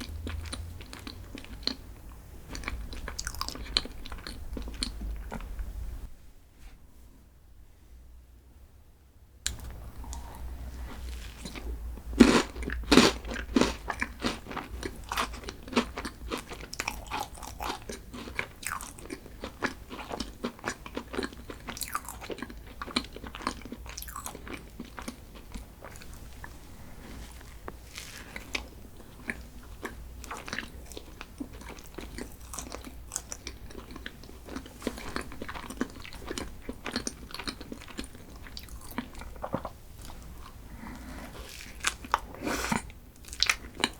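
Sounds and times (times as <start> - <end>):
crunchy chewing: 0.0 - 5.6, 9.5 - 43.9.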